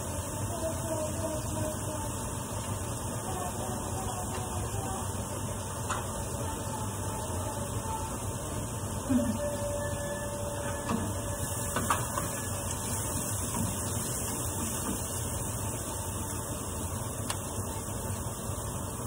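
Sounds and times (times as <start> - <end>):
onion frying in a pan: 0.0 - 19.0
steady hum: 0.0 - 19.0.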